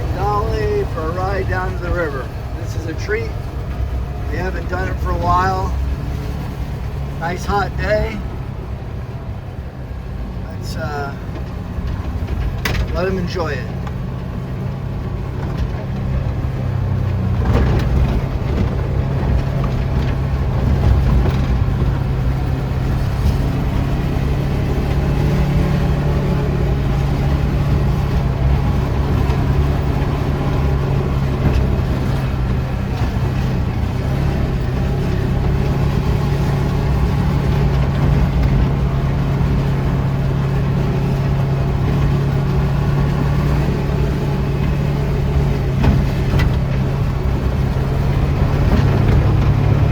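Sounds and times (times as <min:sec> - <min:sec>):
road noise: 0:00.0 - 0:49.9
vehicle engine running: 0:00.0 - 0:49.9.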